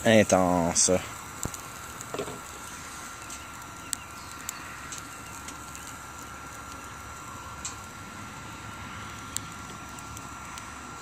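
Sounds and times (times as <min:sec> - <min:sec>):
burning wood crackling and popping: 0:00.0 - 0:11.0
camp stove fan rushing and whine: 0:00.0 - 0:11.0.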